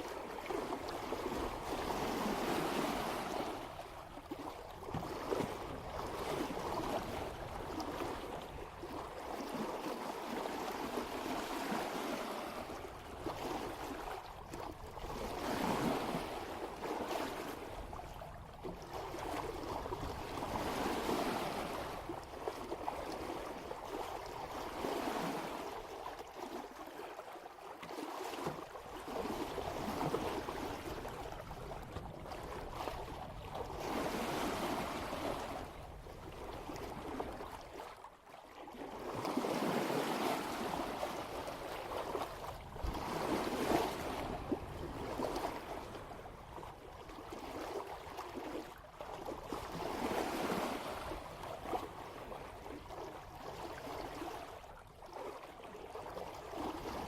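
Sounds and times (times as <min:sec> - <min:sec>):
water splashing along boat bow: 0:00.0 - 0:57.0.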